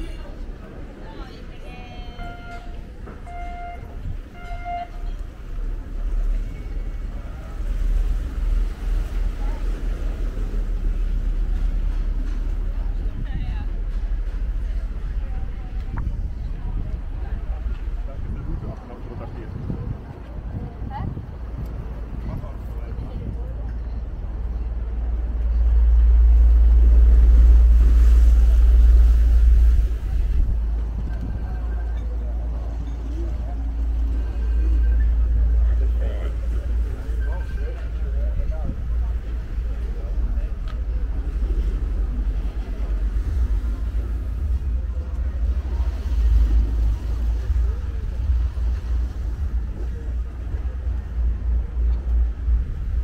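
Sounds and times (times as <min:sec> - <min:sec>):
faint voices: 0:00.0 - 0:53.0
wind buffeting microphone: 0:02.2 - 0:53.0.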